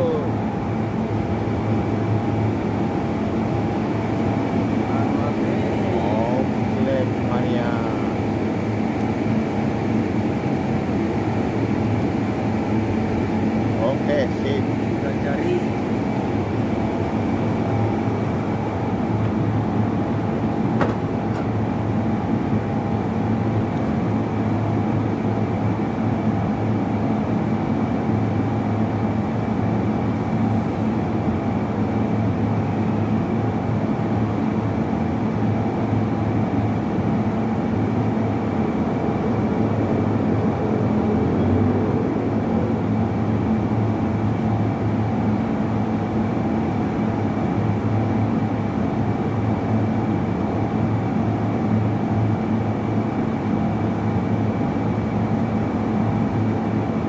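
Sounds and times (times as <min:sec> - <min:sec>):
machine drone with high whine: 0:00.0 - 0:57.0.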